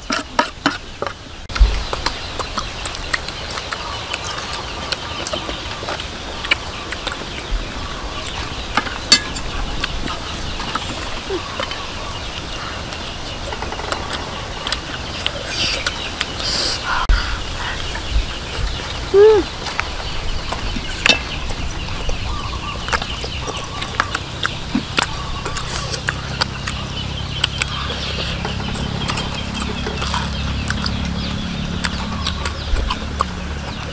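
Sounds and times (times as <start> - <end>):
chewing: 0.0 - 16.8, 17.7 - 33.9
chickens clucking: 0.0 - 33.9.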